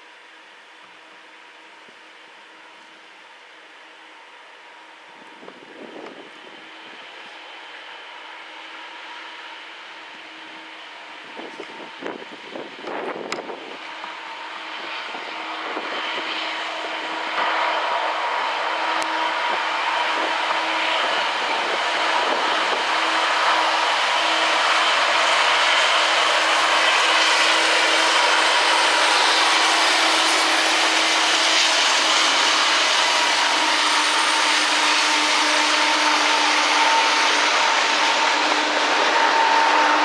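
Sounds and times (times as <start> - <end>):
steel wheels on rail: 0.0 - 40.0
locomotive engines rumbling: 3.6 - 40.0.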